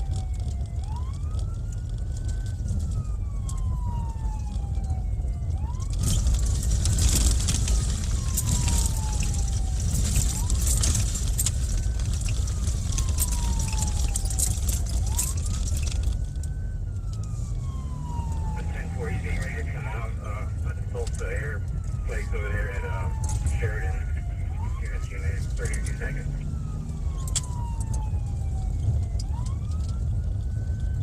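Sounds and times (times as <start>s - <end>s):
police siren wailing: 0.0s - 31.0s.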